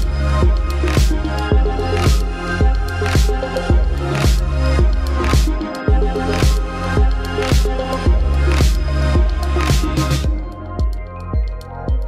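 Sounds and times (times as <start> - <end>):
deep sustained bass: 0.0 - 12.0
music with steady beat: 0.0 - 12.0.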